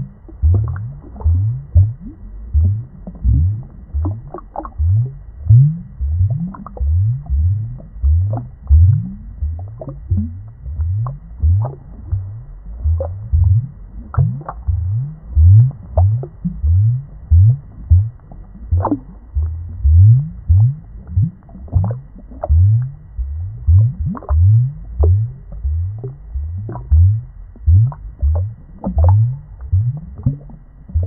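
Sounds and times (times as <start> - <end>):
underwater bubbling: 0.0 - 31.0.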